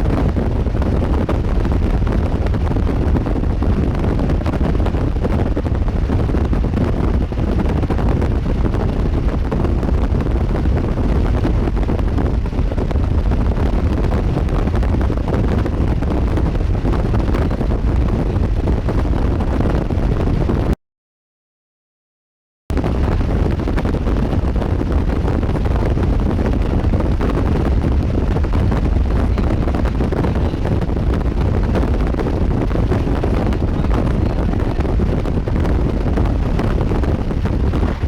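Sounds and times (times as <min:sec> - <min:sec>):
wind buffeting microphone: 0:00.0 - 0:20.8, 0:22.7 - 0:38.0.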